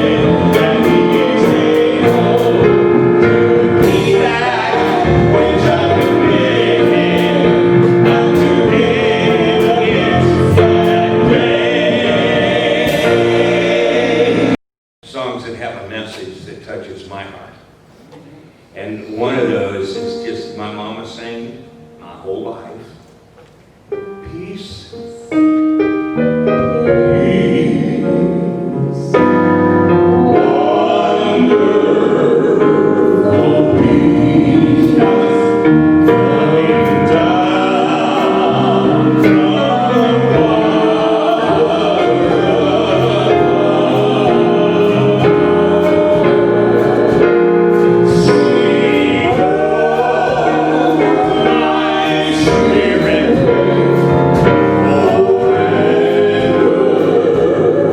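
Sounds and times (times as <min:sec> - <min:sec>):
choir singing a hymn: 0:00.0 - 0:14.6, 0:25.3 - 0:57.9
piano chords: 0:00.0 - 0:14.6, 0:19.1 - 0:57.9.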